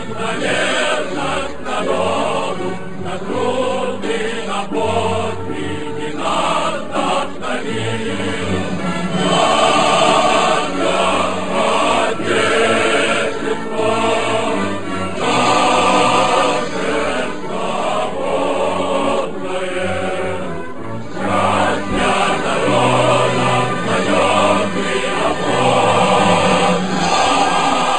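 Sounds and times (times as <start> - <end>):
choir singing: 0.0 - 27.9.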